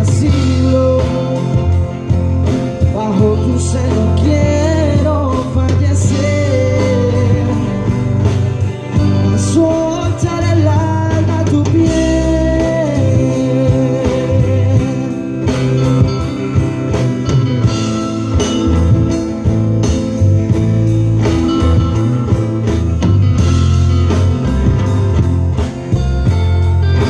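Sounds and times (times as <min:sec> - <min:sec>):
drum kit beat: 0:00.0 - 0:27.0
electric guitar: 0:00.0 - 0:27.0
live band playing: 0:00.0 - 0:27.0.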